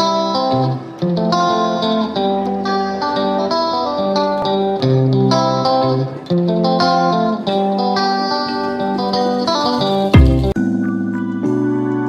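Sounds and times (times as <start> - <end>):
plucked-string melody with held notes: 0.0 - 12.0.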